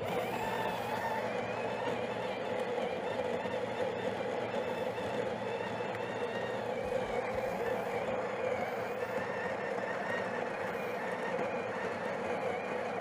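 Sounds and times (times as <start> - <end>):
coffee grinder grinding beans: 0.0 - 13.0.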